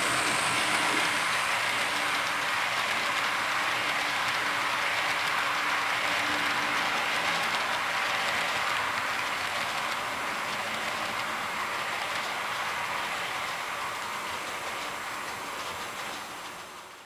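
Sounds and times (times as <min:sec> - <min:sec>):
model train cars rolling on rails: 0:00.0 - 0:17.0.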